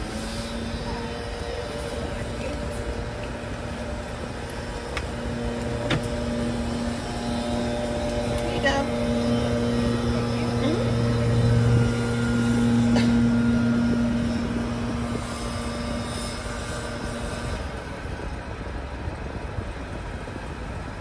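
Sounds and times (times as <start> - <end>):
car engine hum from inside: 0.0 - 17.7
road noise: 0.0 - 21.0.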